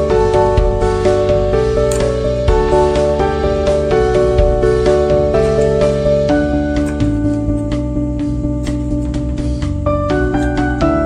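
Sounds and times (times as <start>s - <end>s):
instrumental music with held notes: 0.0s - 11.0s.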